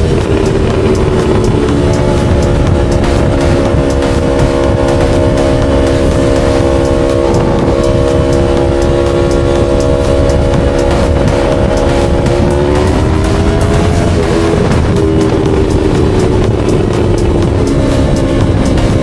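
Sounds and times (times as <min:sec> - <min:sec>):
motorcycle engine drone: 0:00.0 - 0:19.0
rush of wind noise: 0:00.0 - 0:19.0.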